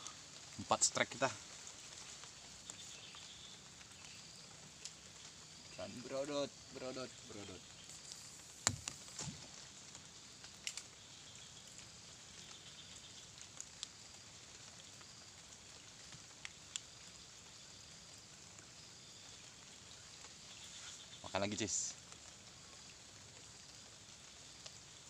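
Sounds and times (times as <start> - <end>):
light rain pattering: 0.0 - 25.0.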